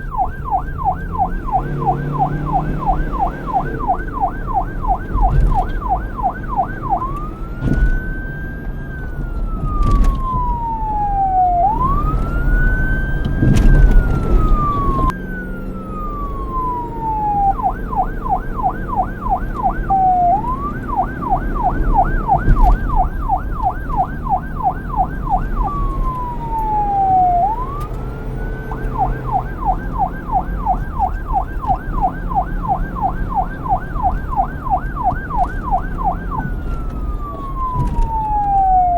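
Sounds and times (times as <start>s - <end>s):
police siren wailing and yelping: 0.0s - 38.9s.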